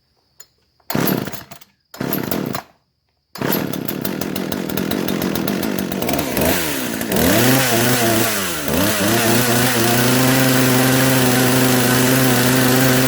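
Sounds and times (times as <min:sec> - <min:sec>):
chainsaw engine running: 0:00.9 - 0:02.6, 0:03.4 - 0:13.0.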